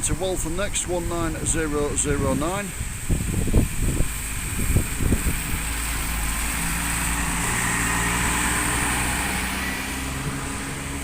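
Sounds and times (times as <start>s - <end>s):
bus diesel engine running: 0.0s - 11.0s
wind and rain on microphone: 0.0s - 11.0s.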